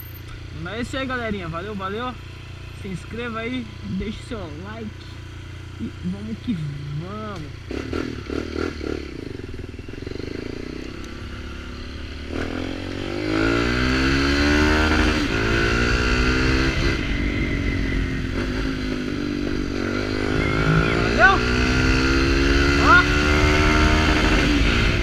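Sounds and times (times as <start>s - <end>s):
motorcycle accelerating: 0.0s - 25.0s.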